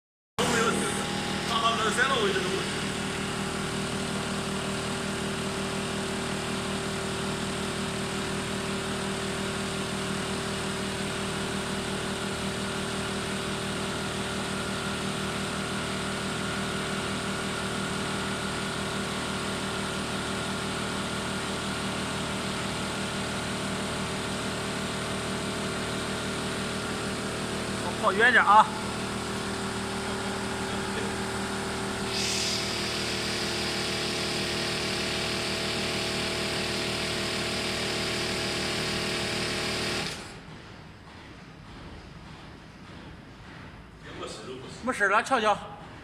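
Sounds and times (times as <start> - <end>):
pressure pump droning: 0.4 - 40.5.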